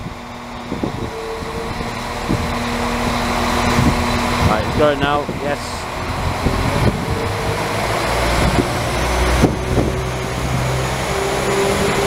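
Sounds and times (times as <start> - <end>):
diesel train engines rumbling: 0.0 - 12.0.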